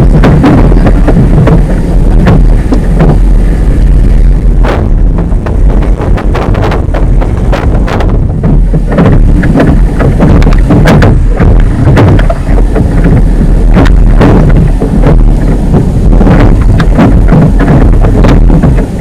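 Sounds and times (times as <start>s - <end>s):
sharp thumps and crackles: 0.0s - 19.0s
wind buffeting microphone: 0.0s - 19.0s.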